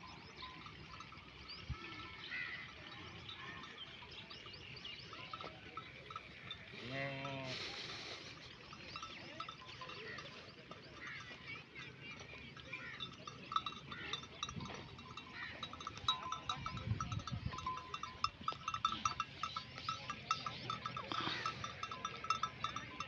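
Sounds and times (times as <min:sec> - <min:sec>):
sheep bells clanking and jingling: 0:00.0 - 0:23.0.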